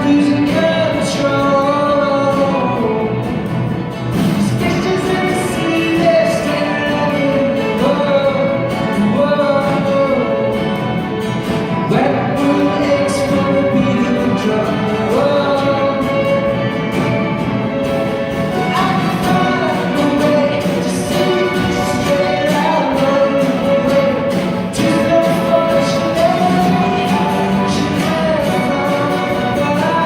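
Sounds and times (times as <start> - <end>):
man singing pop song: 0.0 - 17.4, 18.4 - 30.0
string orchestra playing: 0.0 - 30.0.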